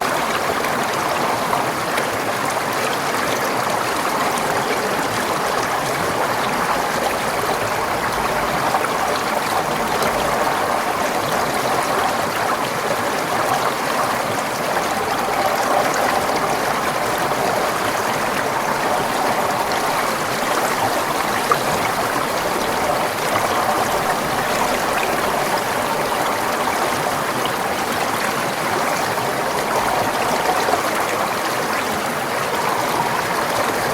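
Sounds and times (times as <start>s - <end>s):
stream flowing: 0.0s - 33.9s.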